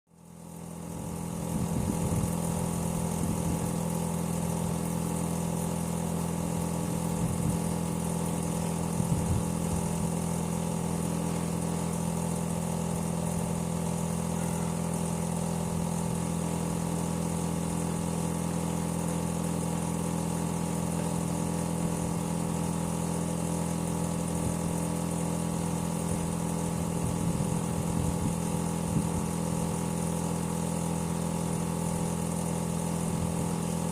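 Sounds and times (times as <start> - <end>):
air conditioner compressor hum: 0.1 - 33.9.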